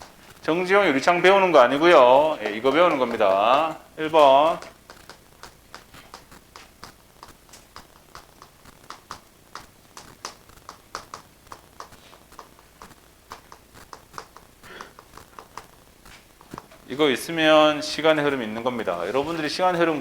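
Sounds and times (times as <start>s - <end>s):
light tapping and clicking: 0.0s - 17.0s
soft rustle: 0.0s - 20.0s.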